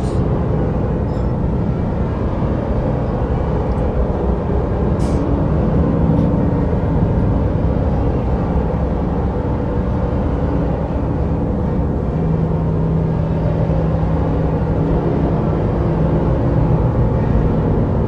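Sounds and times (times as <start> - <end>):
loud low rumble: 0.0 - 18.0.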